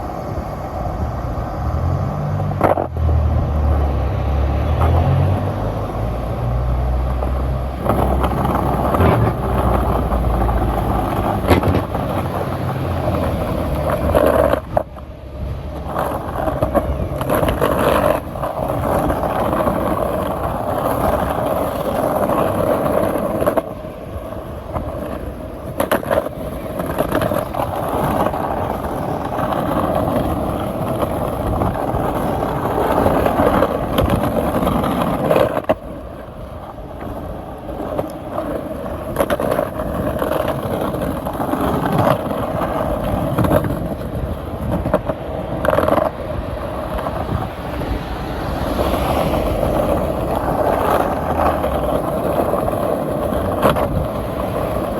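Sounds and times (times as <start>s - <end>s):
skateboard wheels rolling on pavement: 0.0s - 54.9s.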